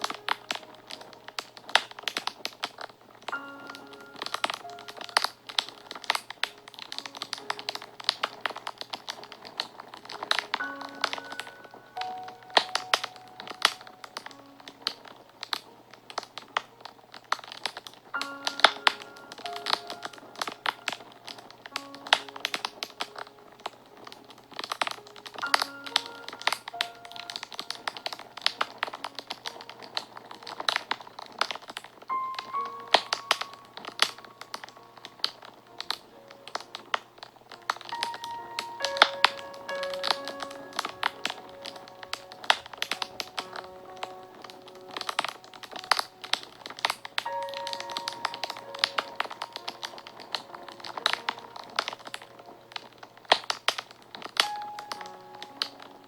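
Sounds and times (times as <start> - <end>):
soft background music: 0.0 - 56.0
wood fire crackling: 0.0 - 56.0.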